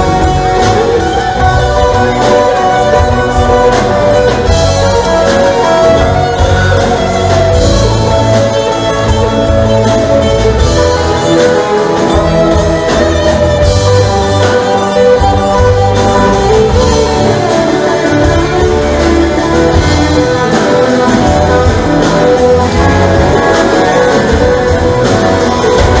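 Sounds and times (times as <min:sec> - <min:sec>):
electric guitars: 0:00.0 - 0:26.0
live band playing: 0:00.0 - 0:26.0.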